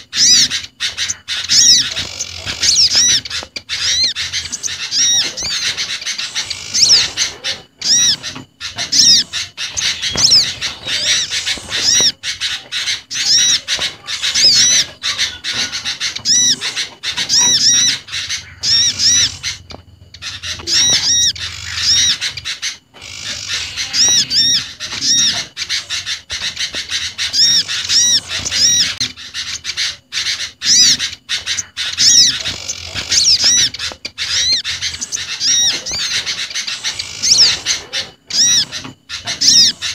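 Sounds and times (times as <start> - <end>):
high arching bird notes: 0.0 - 39.9
songbirds chattering: 0.0 - 39.9.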